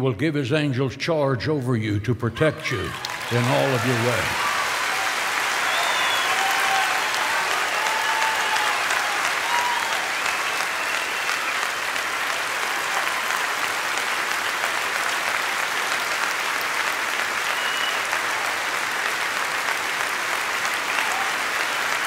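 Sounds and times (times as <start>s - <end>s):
congregation applauding: 2.6s - 22.0s.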